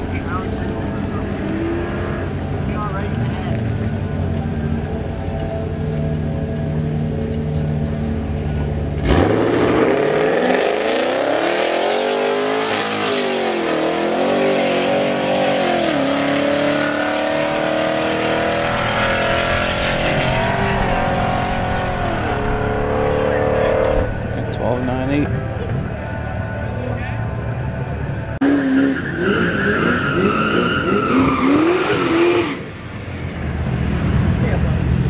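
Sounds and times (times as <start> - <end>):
drag racing car engine accelerating: 0.0 - 35.0.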